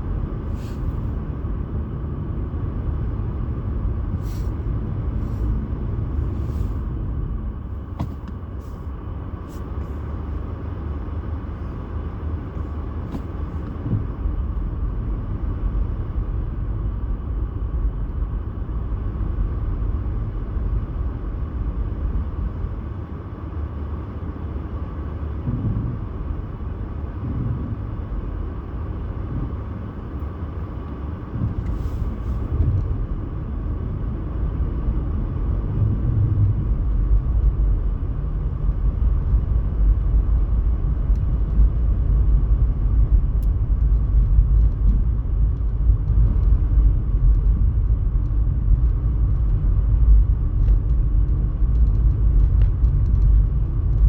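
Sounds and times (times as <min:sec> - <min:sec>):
low rumble: 0:00.0 - 0:54.0.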